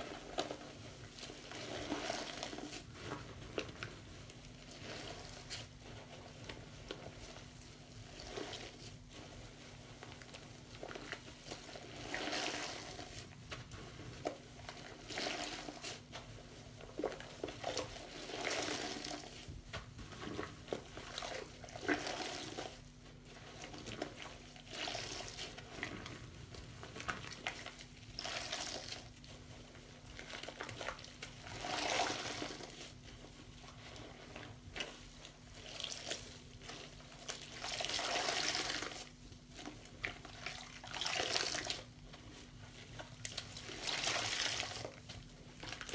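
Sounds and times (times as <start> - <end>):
sponges squishing in sudsy water: 0.0 - 45.9.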